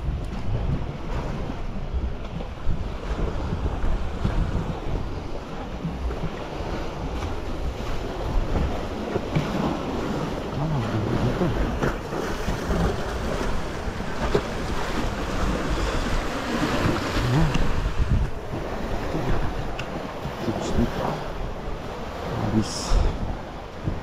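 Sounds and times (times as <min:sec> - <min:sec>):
small waves breaking on shore: 0:00.0 - 0:24.0
wind buffeting microphone: 0:00.0 - 0:24.0.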